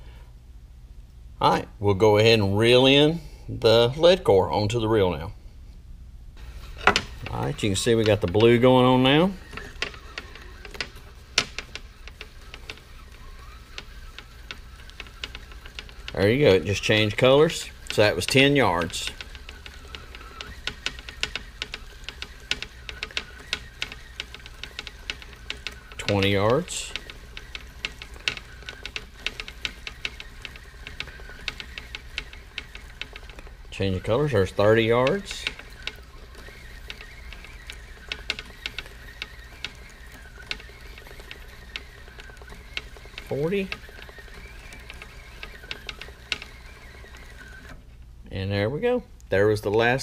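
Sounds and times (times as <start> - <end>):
fishing reel ticking: 6.4 - 47.8.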